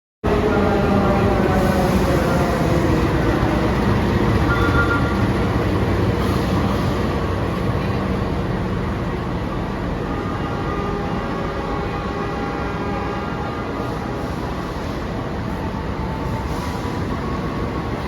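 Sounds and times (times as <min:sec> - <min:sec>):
train wheels rumbling on track: 0:00.3 - 0:18.0.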